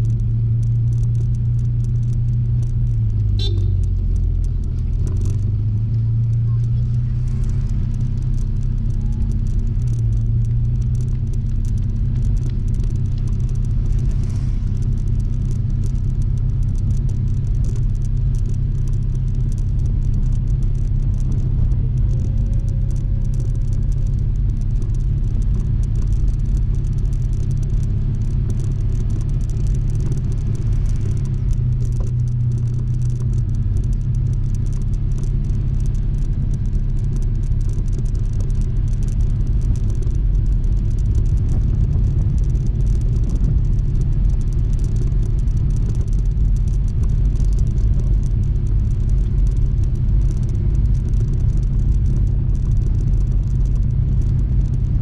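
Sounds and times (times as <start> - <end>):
road rumble: 0.0 - 55.0
wind: 0.0 - 55.0.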